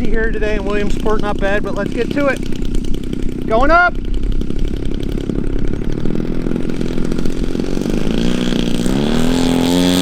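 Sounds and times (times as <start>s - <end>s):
model plane engine revving: 0.0s - 10.0s.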